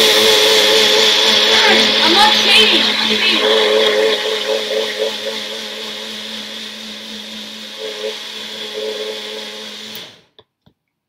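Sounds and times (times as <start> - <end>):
blender running: 0.0 - 10.4.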